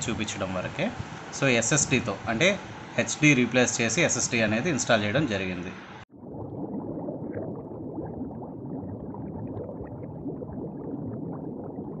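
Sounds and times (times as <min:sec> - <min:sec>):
muffled bubbling and gurgling: 0:00.1 - 0:12.0.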